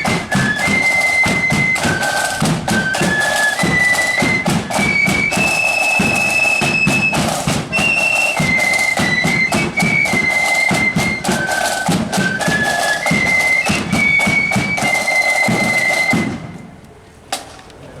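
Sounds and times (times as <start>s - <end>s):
drum beat: 0.0s - 16.6s
marching flute band: 0.0s - 17.5s.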